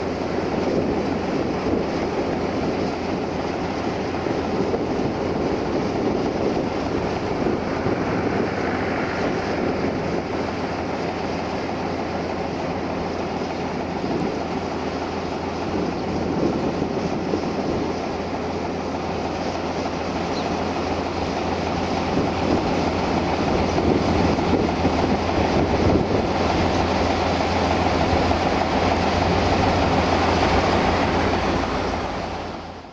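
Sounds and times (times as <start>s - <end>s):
diesel locomotive engine drone: 0.0s - 32.9s.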